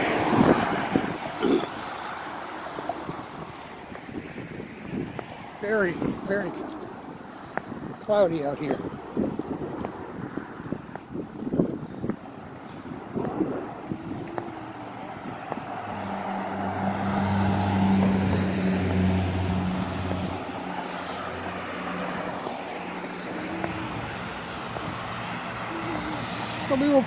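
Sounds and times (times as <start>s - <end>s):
passing vehicle engine and tyres: 0.0s - 27.0s
steady traffic: 0.0s - 27.0s.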